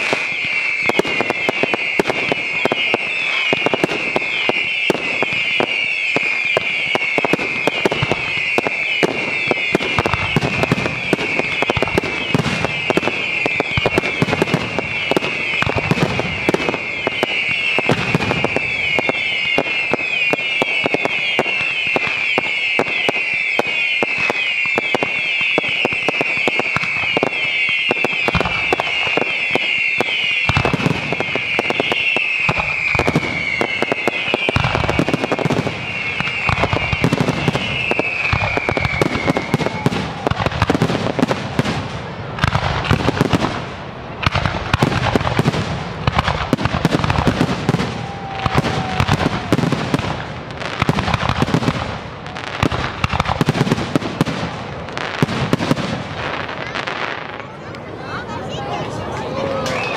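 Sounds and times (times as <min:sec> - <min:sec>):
high falling firework whistles: 0:00.0 - 0:57.4, 0:59.1 - 0:59.9
firework bursts and bangs: 0:00.0 - 0:57.9, 0:58.6 - 0:59.9.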